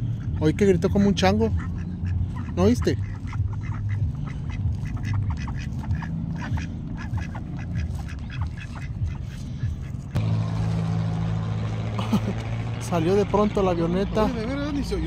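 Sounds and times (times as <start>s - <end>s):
ducks quacking: 0.0s - 10.3s, 11.7s - 15.0s
steady low drone: 0.0s - 15.0s.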